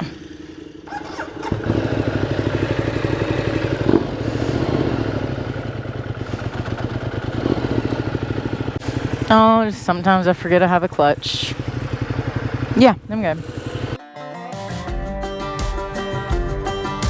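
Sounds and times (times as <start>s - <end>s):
motorcycle engine starting and idling: 0.0s - 14.0s.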